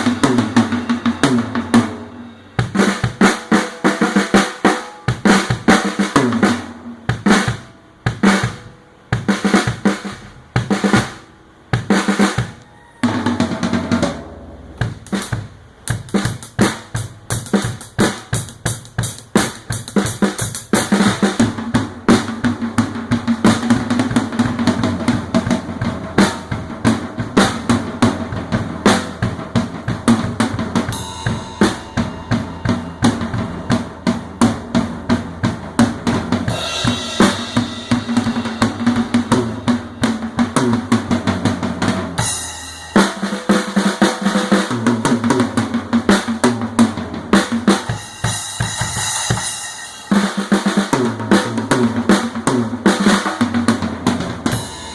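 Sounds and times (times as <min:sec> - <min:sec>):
cymbals washing: 0:00.0 - 0:22.4, 0:23.0 - 0:45.2, 0:47.3 - 0:51.4, 0:54.4 - 0:54.9
drum kit playing: 0:00.0 - 0:54.9.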